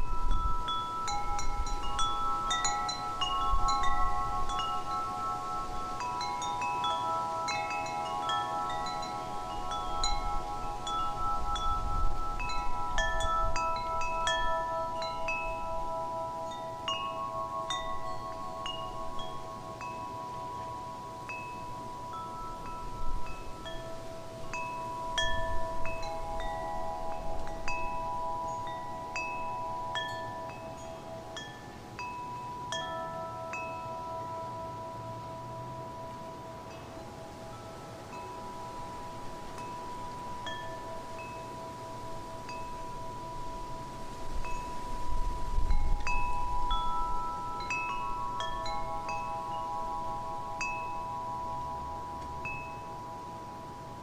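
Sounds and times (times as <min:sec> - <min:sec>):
wind chimes ringing: 0:00.0 - 0:54.0.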